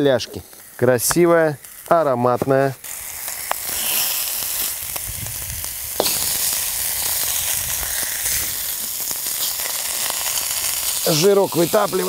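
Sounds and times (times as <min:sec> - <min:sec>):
meat sizzling in a pan: 0:00.2 - 0:12.0.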